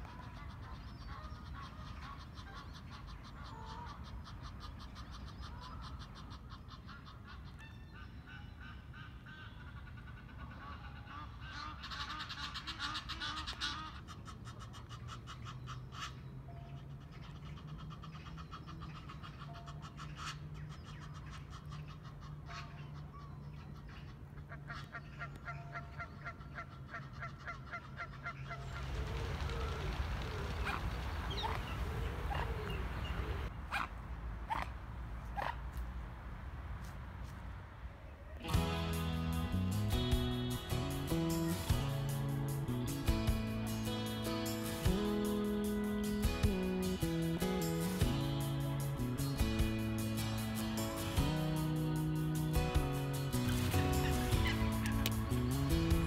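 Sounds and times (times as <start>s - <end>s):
waterfowl calling: 0.0s - 33.9s, 38.6s - 56.0s.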